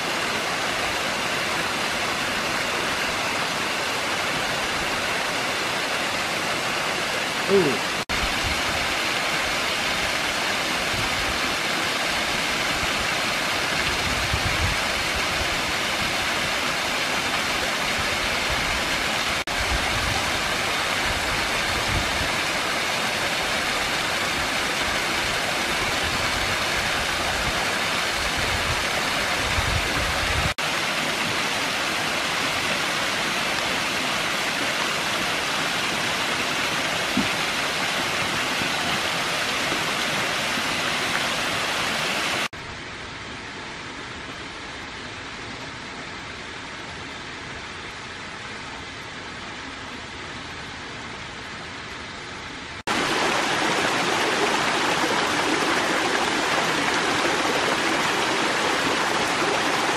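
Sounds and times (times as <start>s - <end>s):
waterfall rushing: 0.0s - 42.5s, 52.7s - 59.9s.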